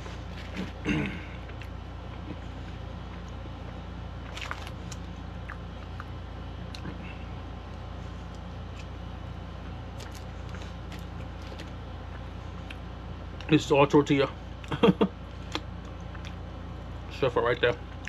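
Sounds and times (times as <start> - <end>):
person chewing food: 0.0 - 13.5, 14.6 - 16.5
low background hum: 0.0 - 18.0.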